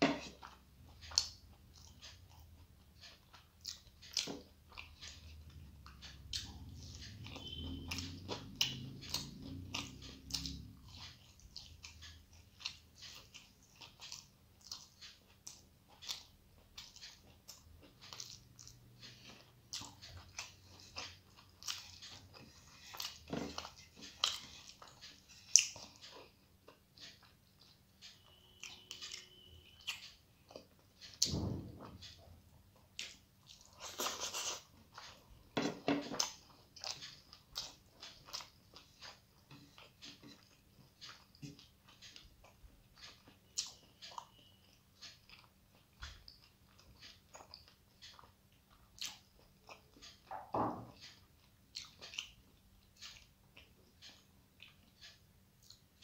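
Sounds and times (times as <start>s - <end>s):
person chewing: 0.0s - 56.0s.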